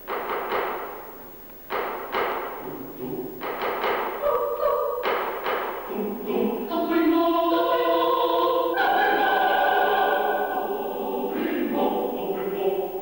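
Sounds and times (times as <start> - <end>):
choir singing held chords: 2.4 - 13.0.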